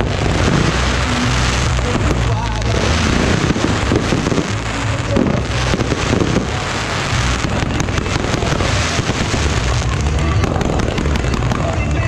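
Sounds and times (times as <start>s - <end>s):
fireworks crackling and popping: 0.0s - 12.0s
steady low rumble: 0.0s - 12.0s.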